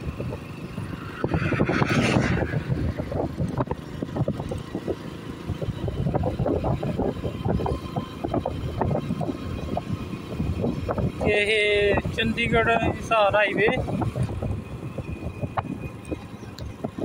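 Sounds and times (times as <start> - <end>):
motorcycle and road rumble: 0.0 - 17.0
wind buffeting microphone: 0.0 - 17.0.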